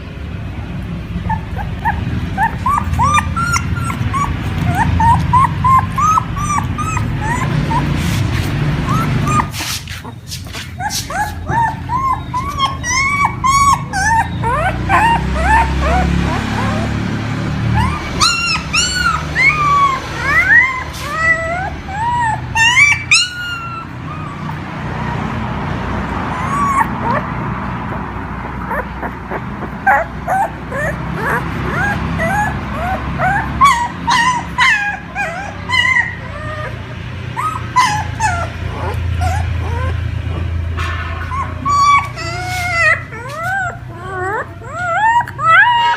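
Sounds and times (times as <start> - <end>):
dogs whining and yelping: 0.0 - 45.9.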